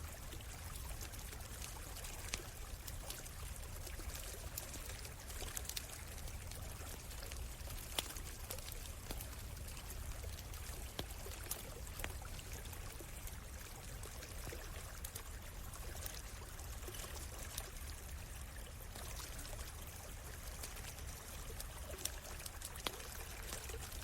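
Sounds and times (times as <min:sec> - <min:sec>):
stream water running: 0:00.0 - 0:24.0
campfire crackling: 0:00.1 - 0:24.0.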